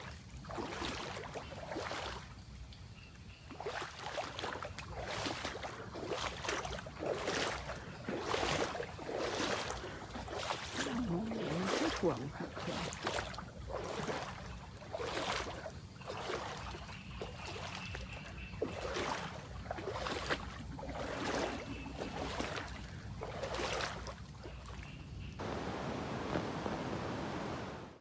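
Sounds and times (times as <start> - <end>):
water swishing rhythmically: 0.0 - 28.0.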